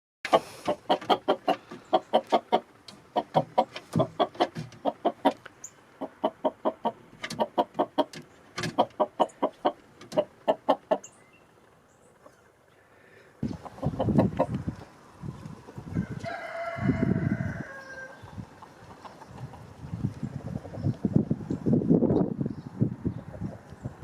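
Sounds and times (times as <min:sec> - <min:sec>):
chickens clucking: 0:00.3 - 0:12.8, 0:13.4 - 0:22.2, 0:23.1 - 0:24.0.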